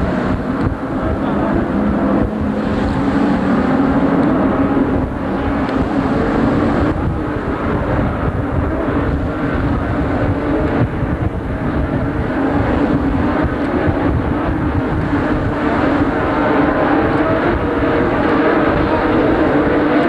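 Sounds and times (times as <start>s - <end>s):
distant powerboat engine drone: 0.0s - 20.0s
wind rumble on microphone: 0.0s - 20.0s.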